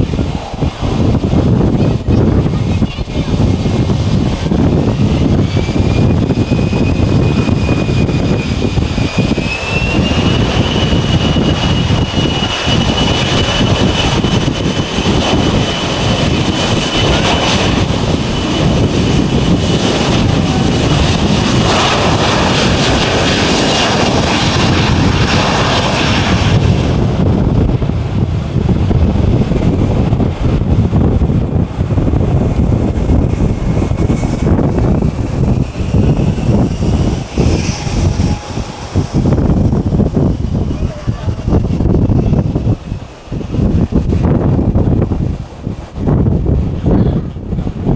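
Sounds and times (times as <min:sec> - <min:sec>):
high turbine whine: 0:00.0 - 0:47.9
jet engine rumble: 0:00.0 - 0:47.9.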